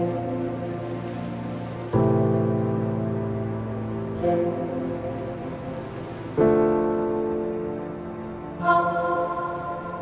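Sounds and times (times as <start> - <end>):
background music held chord: 0.0 - 10.0.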